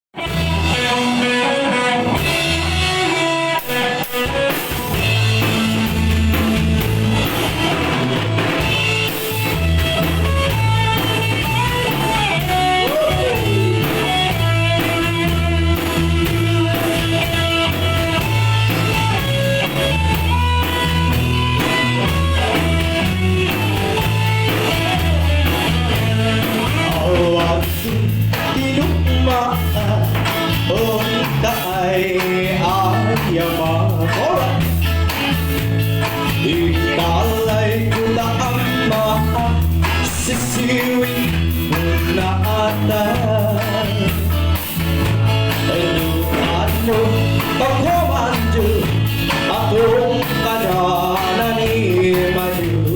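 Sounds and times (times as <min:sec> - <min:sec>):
bass guitar: 0:00.0 - 0:52.9
drum kit beat: 0:00.2 - 0:52.9
lead guitar melody: 0:00.2 - 0:52.9.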